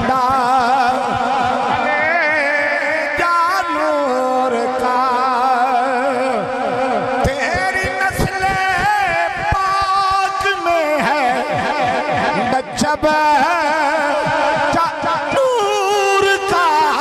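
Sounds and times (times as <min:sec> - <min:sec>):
man singing into microphone: 0:00.0 - 0:17.0.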